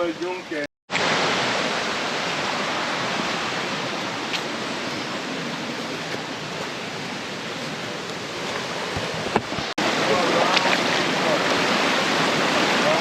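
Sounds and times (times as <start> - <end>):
rushing water hiss: 0.9 - 13.0.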